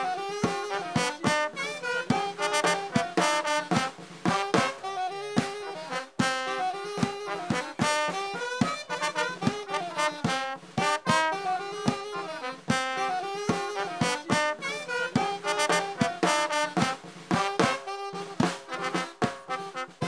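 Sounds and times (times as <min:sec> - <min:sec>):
brass band music: 0:00.0 - 0:20.0
drum hits: 0:00.0 - 0:20.0.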